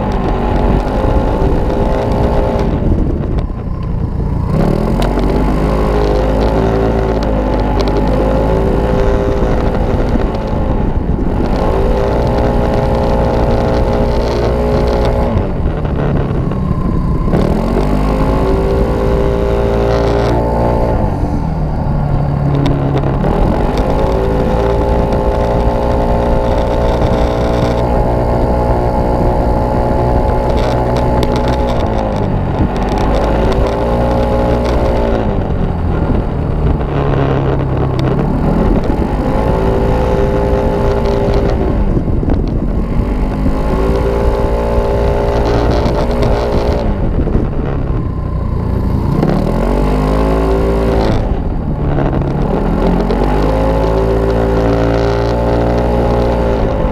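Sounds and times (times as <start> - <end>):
scooter engine revving: 0.0 - 56.9
wind and road noise: 0.0 - 56.9.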